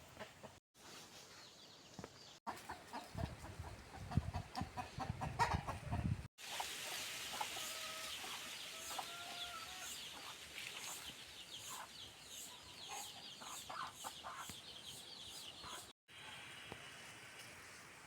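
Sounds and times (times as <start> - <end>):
chickens clucking: 0.0 - 0.6, 2.5 - 16.4.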